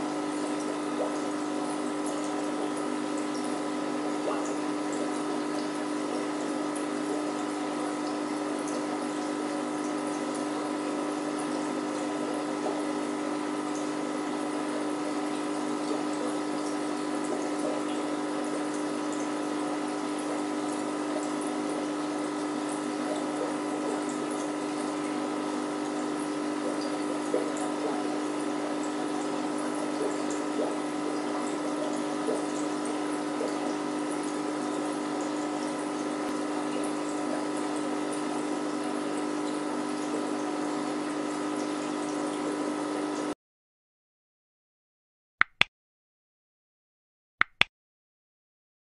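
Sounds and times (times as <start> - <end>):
water bubbling and trickling: 0.0 - 40.4
aquarium filter humming: 0.0 - 43.4.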